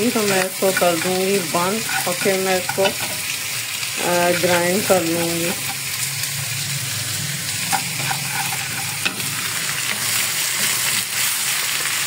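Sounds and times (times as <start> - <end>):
chicken and onions sizzling in oil: 0.0 - 12.0.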